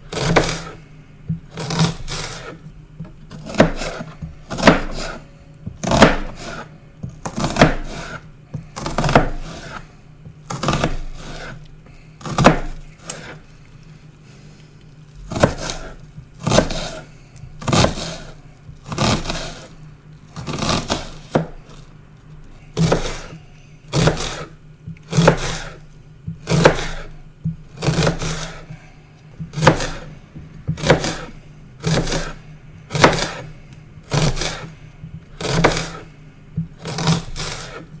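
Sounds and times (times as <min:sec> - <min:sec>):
knife chopping onion: 0:00.0 - 0:13.5, 0:15.2 - 0:21.9, 0:22.5 - 0:38.0.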